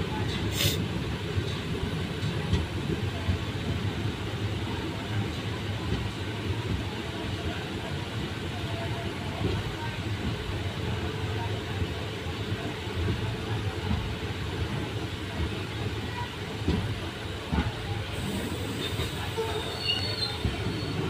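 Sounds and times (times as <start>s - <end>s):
train coach rumbling on rails: 0.0s - 21.0s.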